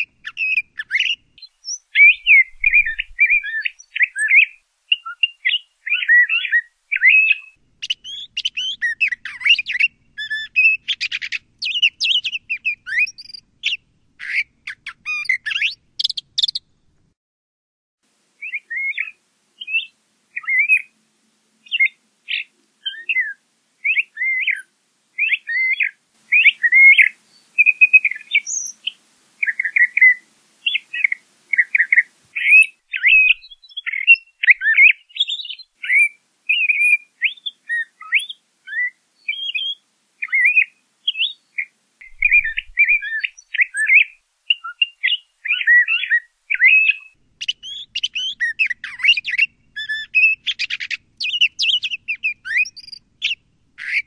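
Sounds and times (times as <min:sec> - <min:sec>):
songbird singing varied song: 0:00.0 - 0:16.7, 0:18.4 - 0:21.0, 0:21.6 - 0:54.0.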